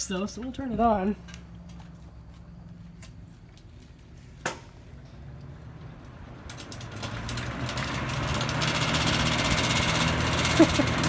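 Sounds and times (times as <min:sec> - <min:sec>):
fan motor humming and air rushing: 0:00.0 - 0:11.0.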